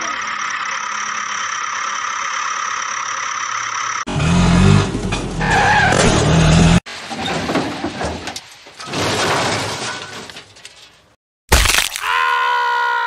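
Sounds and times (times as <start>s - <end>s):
tyres skidding: 0.0s - 11.2s.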